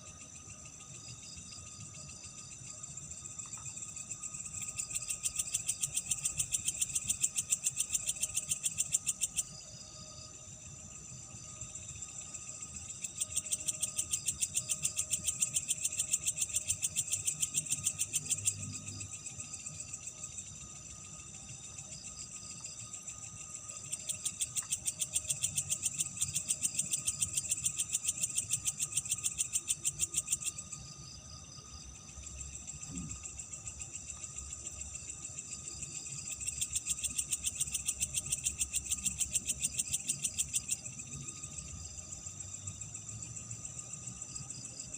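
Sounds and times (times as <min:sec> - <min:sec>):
rapid pulsing insect trill: 0:00.0 - 0:44.9
insects singing: 0:00.1 - 0:44.9.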